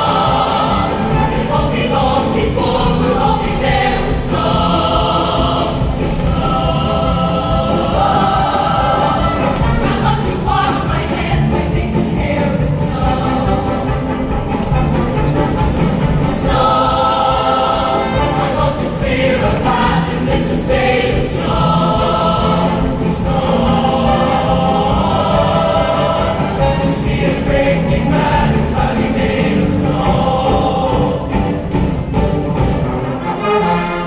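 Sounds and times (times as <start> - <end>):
choir singing held notes: 0.0 - 34.0
instrumental accompaniment: 0.0 - 34.0.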